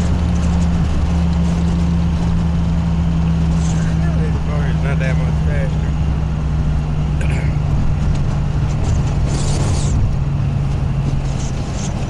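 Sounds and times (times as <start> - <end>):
car engine droning: 0.0 - 12.0
road and wind noise: 0.0 - 12.0.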